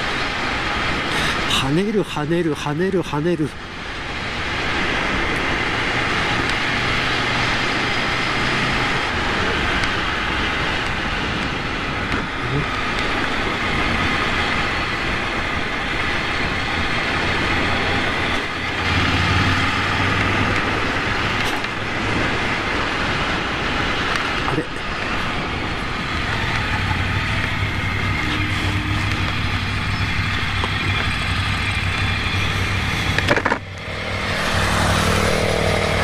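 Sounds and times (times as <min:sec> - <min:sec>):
wind rushing over microphone: 0:00.0 - 0:36.0
motorcycle engine cruising: 0:04.9 - 0:36.0.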